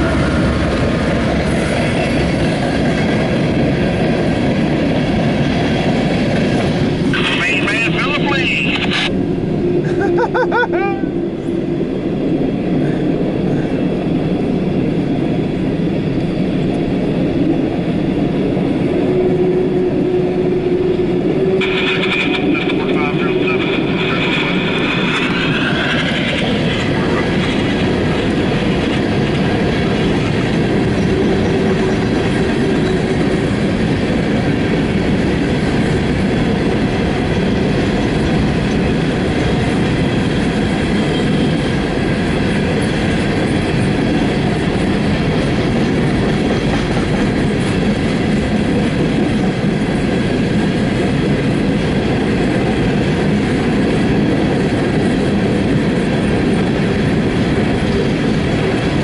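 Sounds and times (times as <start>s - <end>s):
train wheels clattering on rails: 0.0s - 7.2s, 12.3s - 59.0s.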